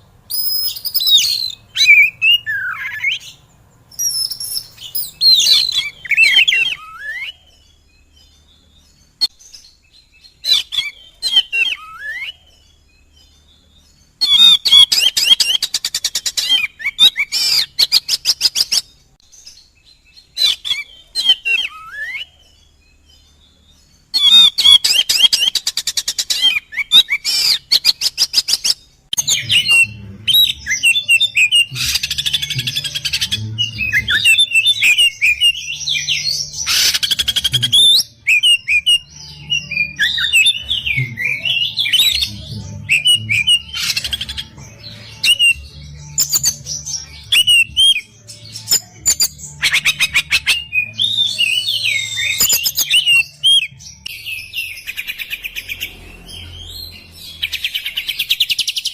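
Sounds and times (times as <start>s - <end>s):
magpie-robin singing: 0.0s - 58.9s.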